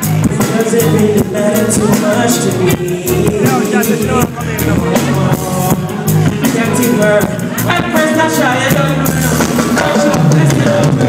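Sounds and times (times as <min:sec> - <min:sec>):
drum kit beat: 0:00.0 - 0:11.0
electric bass guitar: 0:00.0 - 0:11.0
person singing: 0:00.0 - 0:11.0.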